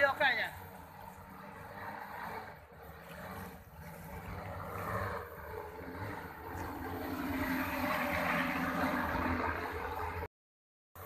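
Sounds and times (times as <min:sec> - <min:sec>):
drone propellers whirring: 0:00.0 - 0:10.3.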